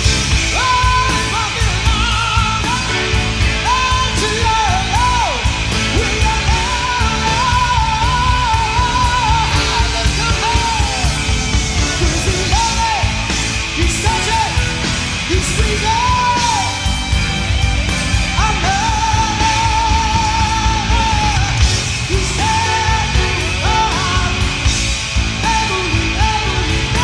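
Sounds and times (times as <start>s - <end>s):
rock song: 0.0s - 27.0s.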